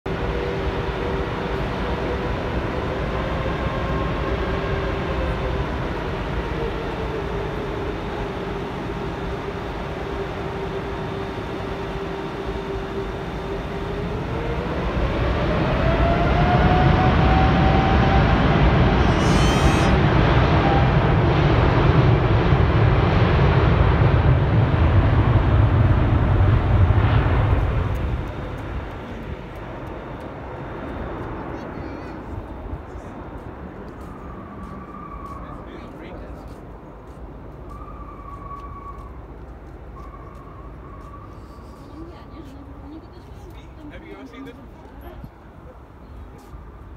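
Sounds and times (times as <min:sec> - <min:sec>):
jet engines running: 0:00.1 - 0:42.0.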